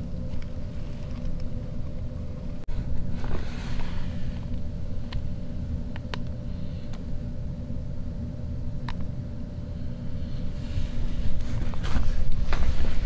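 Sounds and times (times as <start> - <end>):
faint hum: 0.0 - 13.0
low background rumble: 0.0 - 13.0.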